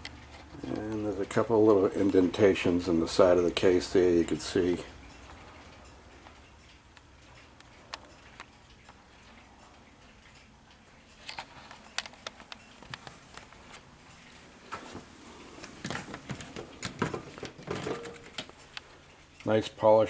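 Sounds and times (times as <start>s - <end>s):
clock ticking softly: 0.0s - 19.8s.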